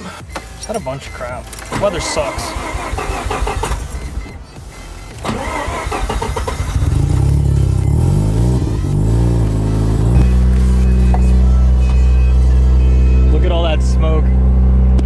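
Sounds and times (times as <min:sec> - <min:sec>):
engine cranking: 0:00.2 - 0:12.7
engine idling: 0:00.3 - 0:15.0.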